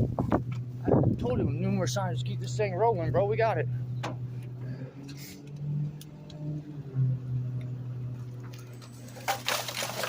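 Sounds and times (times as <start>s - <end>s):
garbage truck humming: 0.0s - 10.0s.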